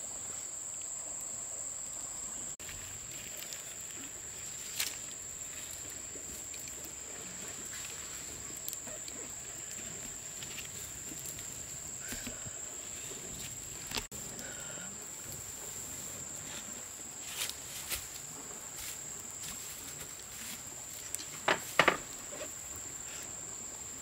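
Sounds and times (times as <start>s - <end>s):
soft outdoor hiss: 0.0s - 24.0s
insect trilling: 0.8s - 24.0s.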